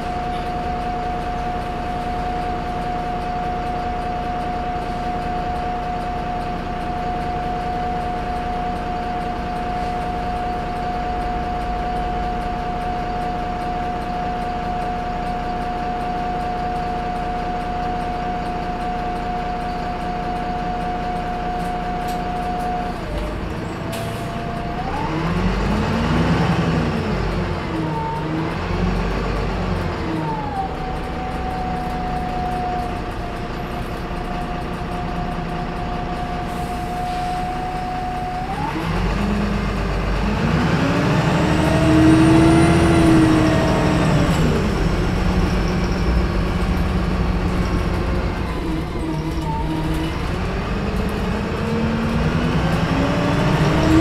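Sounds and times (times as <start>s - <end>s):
bus turbo whine: 0.0s - 54.0s
diesel bus engine: 0.0s - 54.0s.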